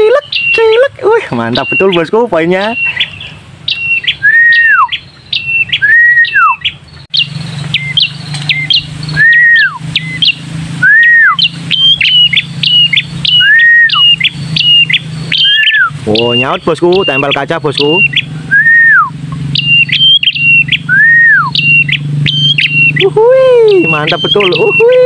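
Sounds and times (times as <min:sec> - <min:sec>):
recorded birdsong: 0:00.0 - 0:25.0
warbler calling: 0:00.0 - 0:25.0.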